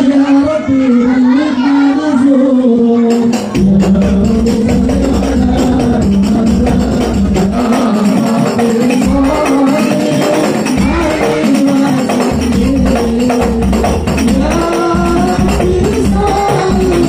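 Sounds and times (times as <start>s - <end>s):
man singing amplified: 0.0s - 17.0s
frame drums beaten quickly: 3.1s - 17.0s.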